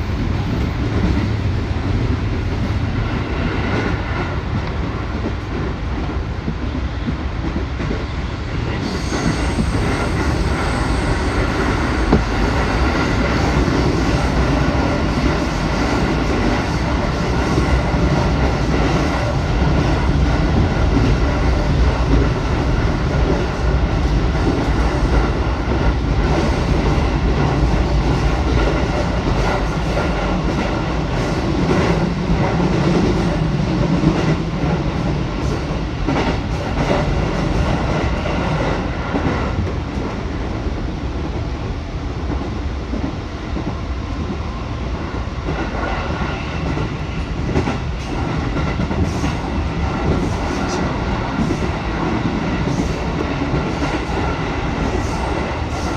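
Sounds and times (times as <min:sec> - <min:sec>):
electric train rumbling: 0:00.0 - 0:55.9
rail joint clicks: 0:02.1 - 0:55.9.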